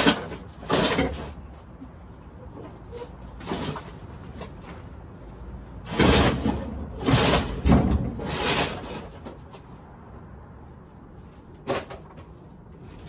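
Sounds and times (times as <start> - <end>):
loud scraping and rattling: 0.0 - 9.8, 11.4 - 13.0.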